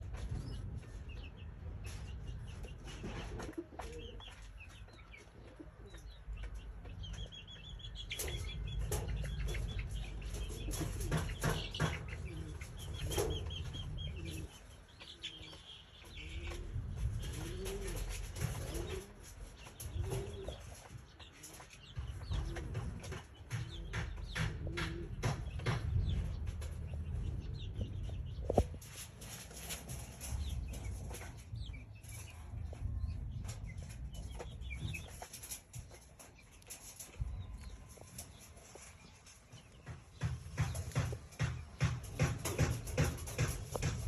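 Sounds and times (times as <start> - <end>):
bird calls: 0.0 - 44.0.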